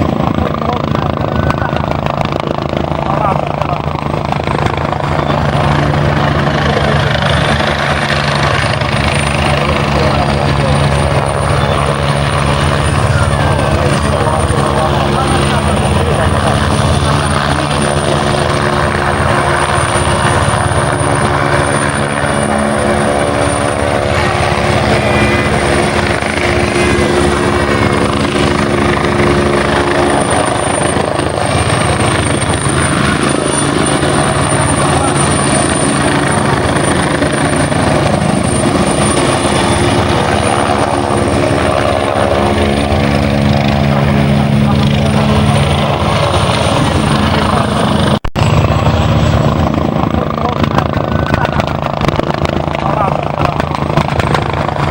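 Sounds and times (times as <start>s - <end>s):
helicopter rotor and engine drone: 0.0s - 54.9s.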